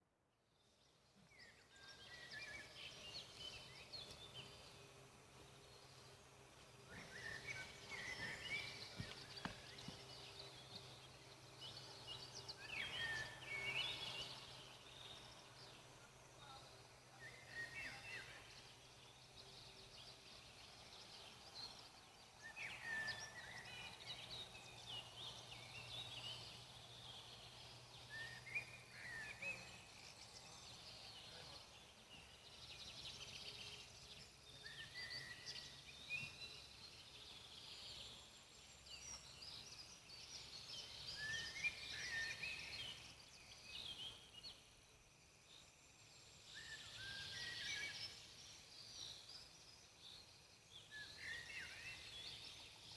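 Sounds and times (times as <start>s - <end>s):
faint low background noise: 0.0s - 52.9s.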